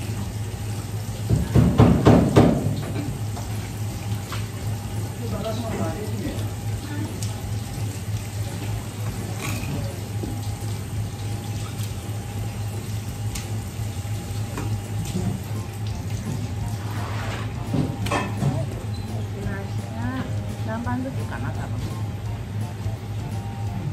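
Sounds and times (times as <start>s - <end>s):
tap water running into sink: 0.0s - 23.9s.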